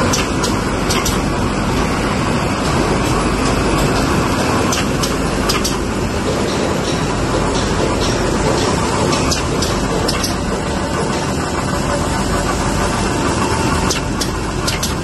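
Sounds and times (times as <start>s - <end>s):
machine mechanical clatter: 0.0s - 15.0s.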